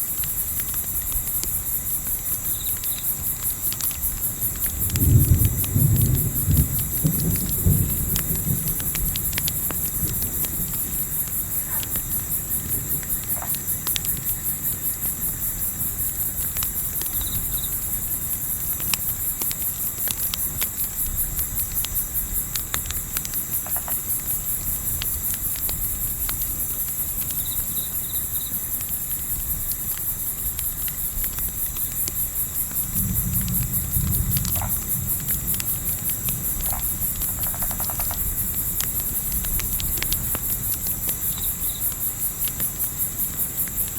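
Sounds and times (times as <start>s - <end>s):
campfire crackling: 0.0s - 43.9s
crickets chirping: 0.0s - 43.9s.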